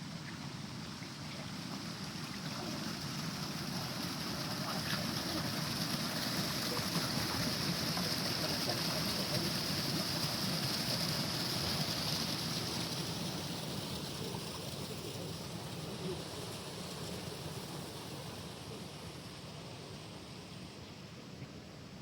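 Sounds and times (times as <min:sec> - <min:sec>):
small stream running: 0:00.0 - 0:22.0.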